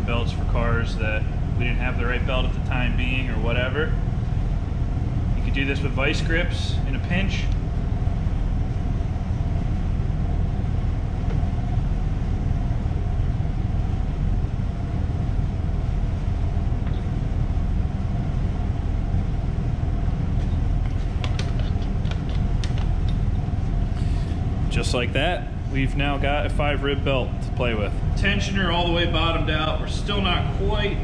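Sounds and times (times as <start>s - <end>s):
low drone: 0.0s - 31.0s.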